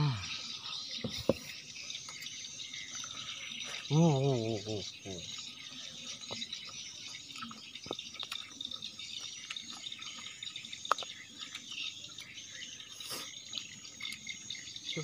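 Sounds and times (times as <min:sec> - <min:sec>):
insects droning: 0:00.0 - 0:15.0
wet eating sounds: 0:00.2 - 0:15.0.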